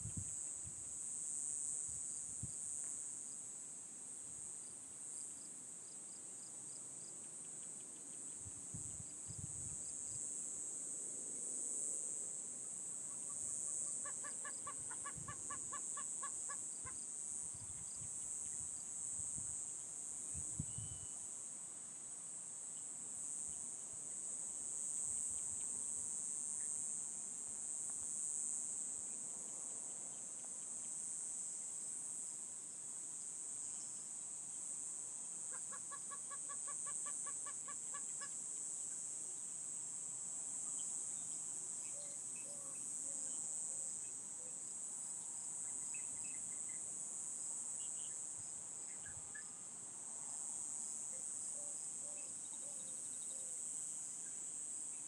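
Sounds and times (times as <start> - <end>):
crickets chirping: 0.0 - 55.0
rapid repeated insect calls: 0.0 - 55.0.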